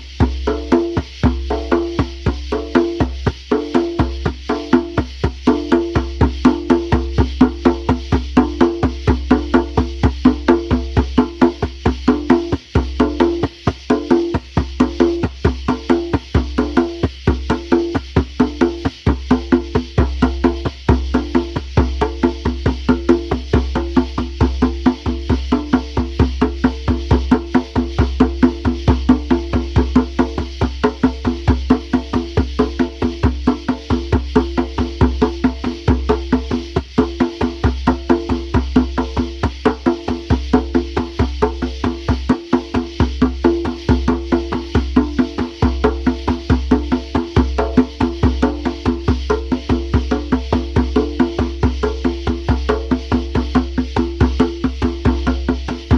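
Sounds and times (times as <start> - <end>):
hand drum steady beat: 0.0 - 55.9.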